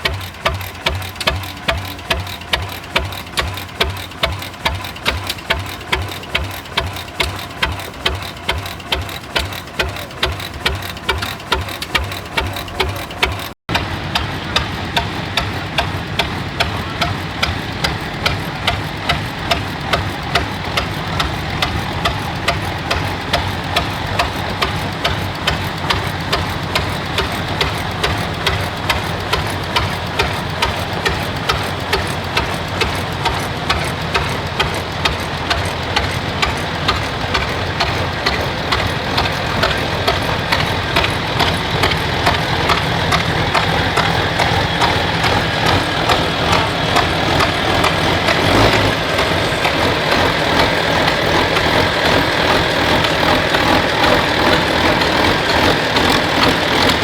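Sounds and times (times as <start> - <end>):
engine with quick beat: 0.0 - 57.0
old engine exhaust popping: 0.0 - 57.0.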